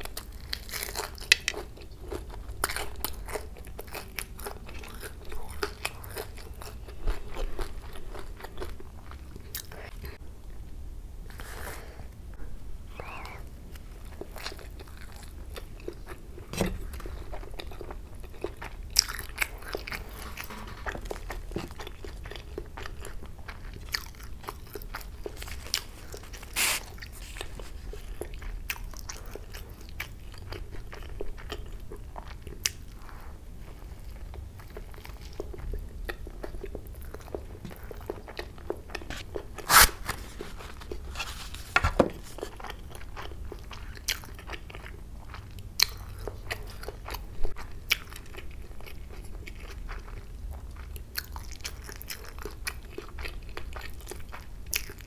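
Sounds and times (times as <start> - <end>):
biting and chewing food: 0.0 - 10.2, 13.8 - 55.0.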